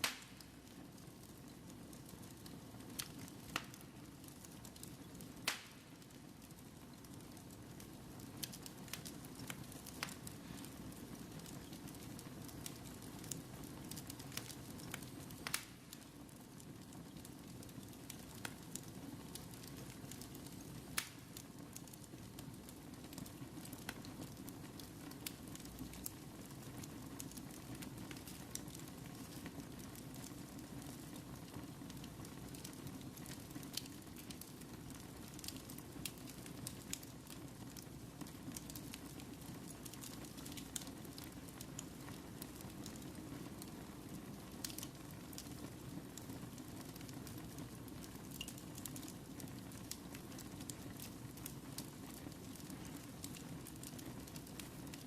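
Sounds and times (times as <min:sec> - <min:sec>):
fire crackles and pops: 0:00.0 - 0:55.0
fire rumbling: 0:00.0 - 0:55.0.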